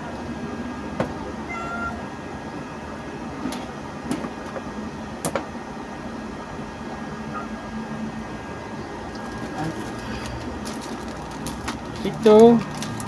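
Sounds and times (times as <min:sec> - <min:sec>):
inverter humming and hissing: 0:00.0 - 0:13.0.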